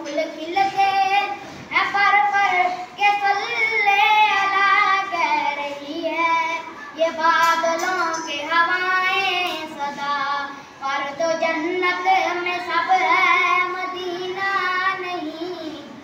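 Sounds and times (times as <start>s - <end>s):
boy singing unaccompanied: 0.0s - 16.0s.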